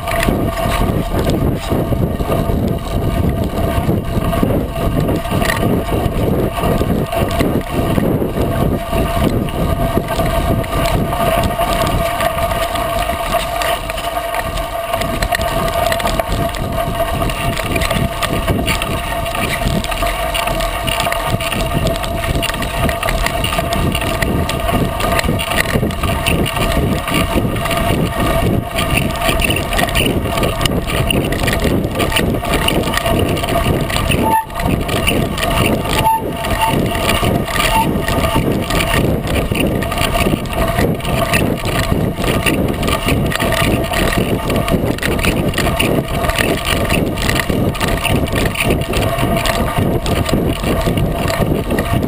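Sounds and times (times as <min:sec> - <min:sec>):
tire rolling on gravel: 0:00.0 - 0:52.0.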